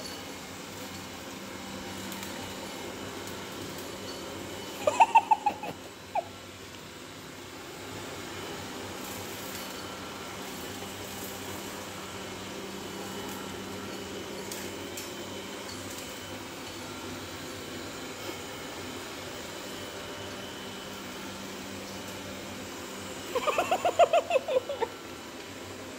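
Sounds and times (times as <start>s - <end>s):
robot vacuum fan hum: 0.0s - 25.9s.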